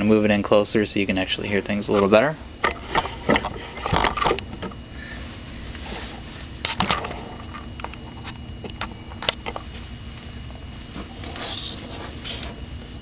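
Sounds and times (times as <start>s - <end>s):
computer hum and high whine: 0.0s - 13.0s.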